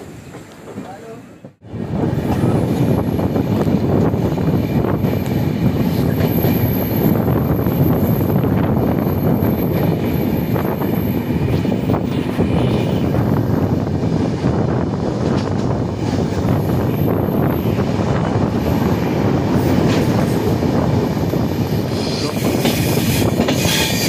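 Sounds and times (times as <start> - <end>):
train wheels on rail: 0.0 - 24.0.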